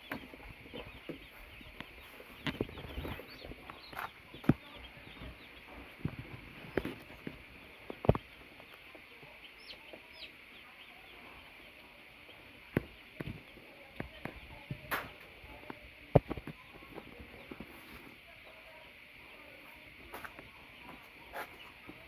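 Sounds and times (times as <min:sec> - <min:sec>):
baby chicks peeping: 0:00.0 - 0:22.0.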